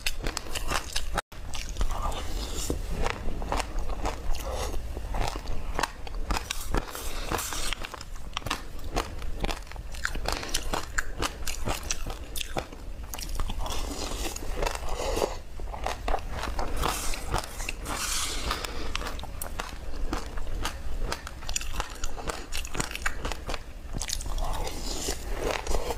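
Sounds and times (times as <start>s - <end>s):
crunching crisp food: 0.0s - 25.9s.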